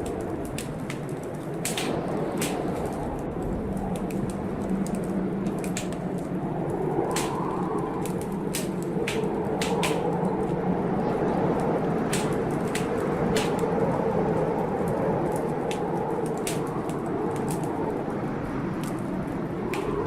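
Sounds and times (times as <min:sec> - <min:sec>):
sharp fire pops: 0:00.0 - 0:10.5, 0:11.5 - 0:17.8, 0:18.7 - 0:20.0
storm rain: 0:00.0 - 0:20.0
wind: 0:00.0 - 0:20.0
wood fire crackling: 0:00.0 - 0:20.0.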